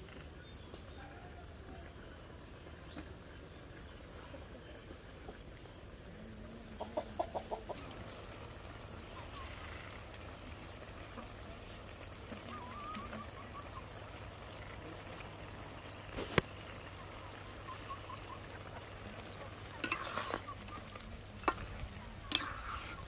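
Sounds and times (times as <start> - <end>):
chickens clucking: 4.1 - 23.0.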